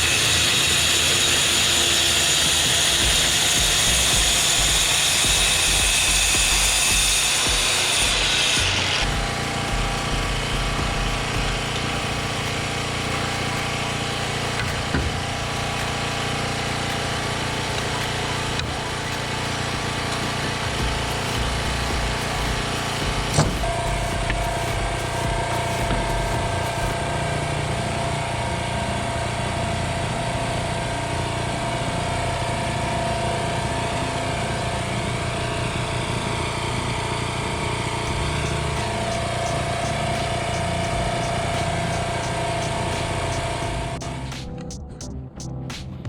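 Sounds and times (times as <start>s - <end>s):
engine running: 0.0s - 46.0s
steady whine: 0.0s - 46.0s.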